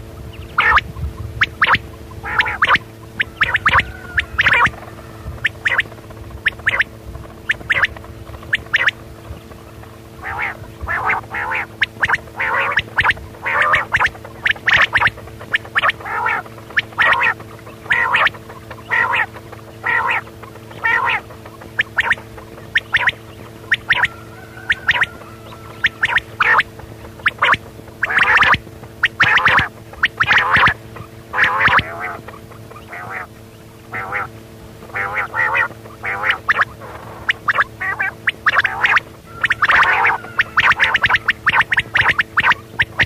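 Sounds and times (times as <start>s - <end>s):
quail calling: 0.0s - 43.0s
steady low hum: 0.0s - 43.0s.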